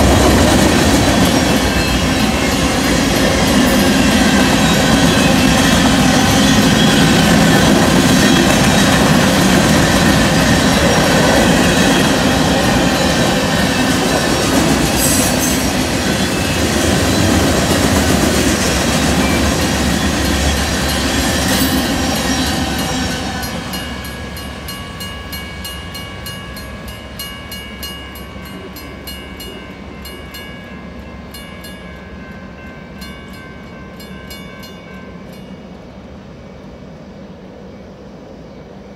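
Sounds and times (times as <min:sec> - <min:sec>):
crossing warning bell ringing: 0:00.0 - 0:35.9
freight train wheels on rails: 0:00.0 - 0:38.9.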